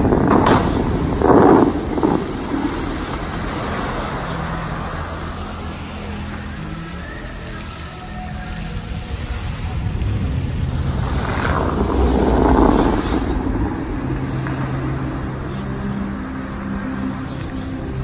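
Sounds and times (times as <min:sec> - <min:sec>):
low vehicle rumble: 0:00.0 - 0:18.0
rushing swell: 0:00.0 - 0:18.0.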